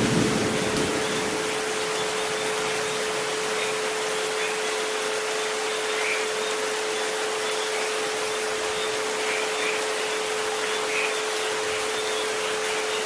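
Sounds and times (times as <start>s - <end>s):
continuous pure tones: 0.0s - 13.0s
steady rain hiss: 0.0s - 13.0s.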